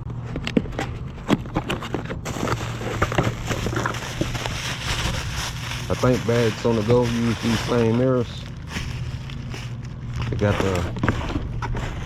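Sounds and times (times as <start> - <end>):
steady low hum: 0.0 - 12.0
package being handled: 1.0 - 12.0.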